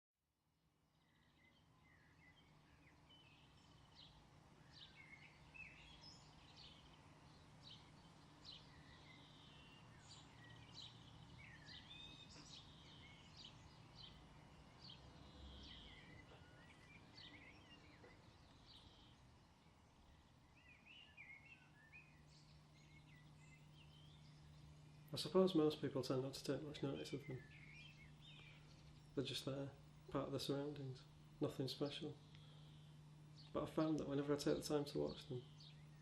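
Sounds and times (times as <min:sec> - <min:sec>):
small birds chirping: 0:00.9 - 0:36.0.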